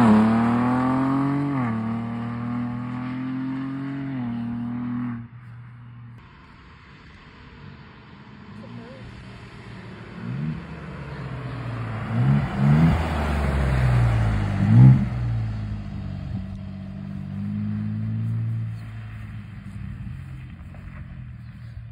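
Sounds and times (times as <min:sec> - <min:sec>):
engine revving: 0:00.0 - 0:05.3, 0:08.6 - 0:21.8
car engine driving past: 0:00.0 - 0:21.9.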